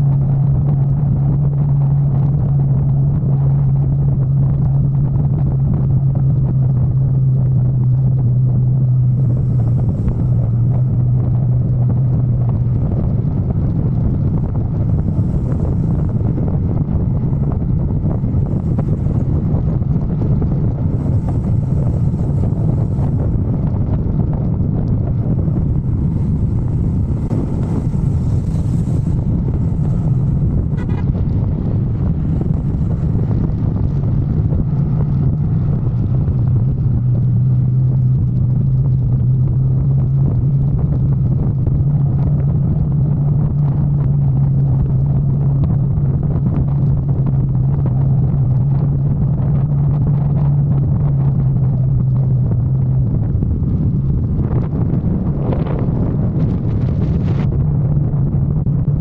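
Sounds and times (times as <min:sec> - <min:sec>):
motorcycle engine drone: 0:00.0 - 0:59.0
wind over microphone: 0:00.0 - 0:59.0.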